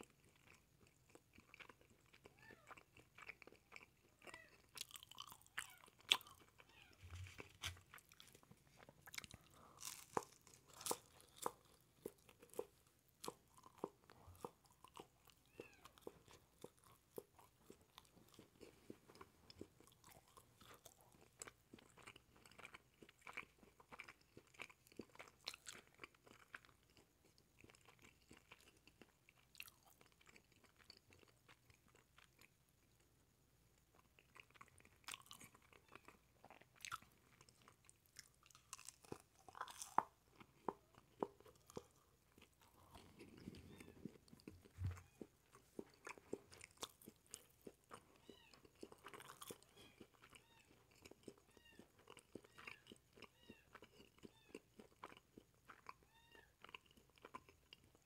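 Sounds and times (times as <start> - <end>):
crisp chewing crunches: 0.0 - 33.1, 33.7 - 58.0.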